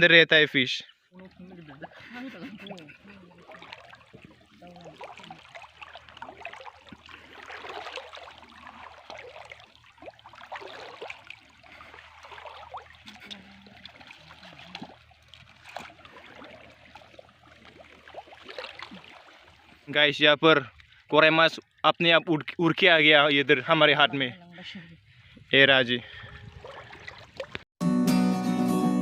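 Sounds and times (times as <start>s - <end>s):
shallow water splashing: 0.8s - 27.7s.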